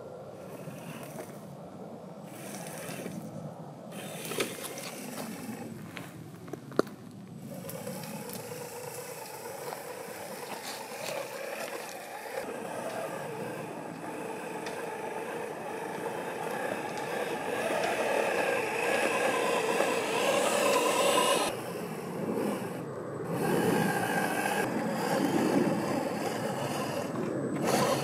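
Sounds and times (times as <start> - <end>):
electric motor whining: 2.3 - 3.3, 3.9 - 5.7, 7.5 - 28.0.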